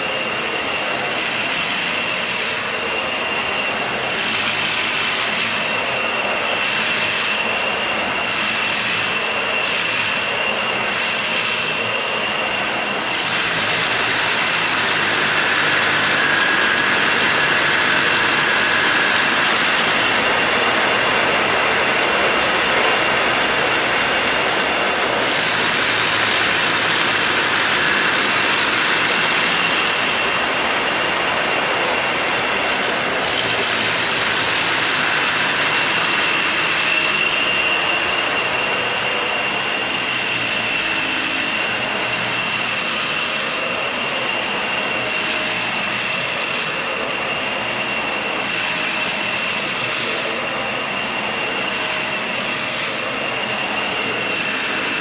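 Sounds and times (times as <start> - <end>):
vacuum cleaner running on rug: 0.0 - 55.0.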